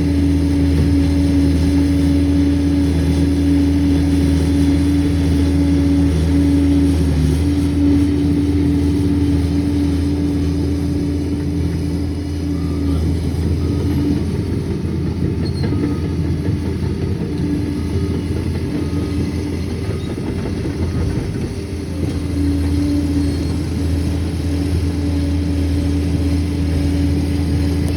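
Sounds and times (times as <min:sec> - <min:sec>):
diesel engine humming: 0:00.0 - 0:27.9.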